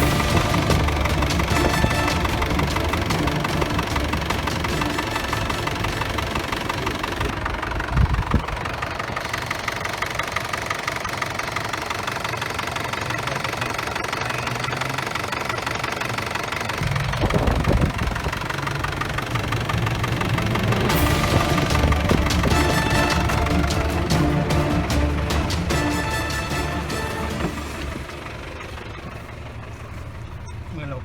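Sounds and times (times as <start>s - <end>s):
pickup engine idling: 0.0s - 31.0s.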